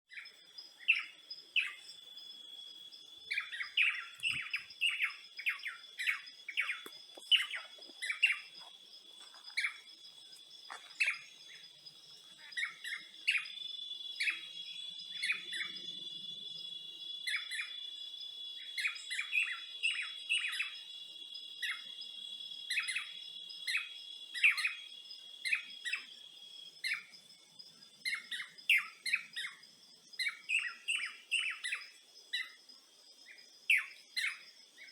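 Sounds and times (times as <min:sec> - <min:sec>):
birds chirping: 0:00.1 - 0:34.9
high insect drone: 0:00.1 - 0:34.9.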